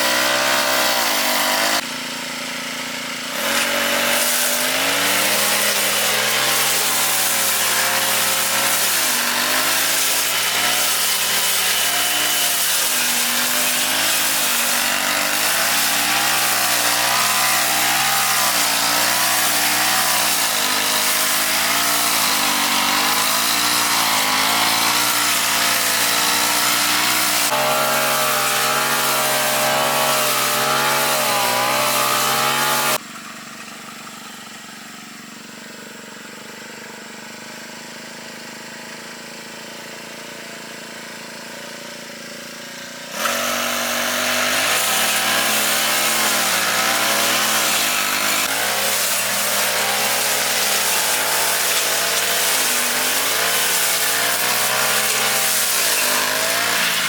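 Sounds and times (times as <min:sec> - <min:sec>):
grass-cutter engine running: 0:00.0 - 0:57.0.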